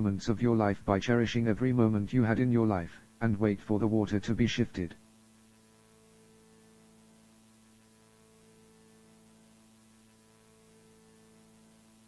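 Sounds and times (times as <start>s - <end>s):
faint steady hum: 0.0s - 12.0s
light hiss: 0.0s - 12.0s.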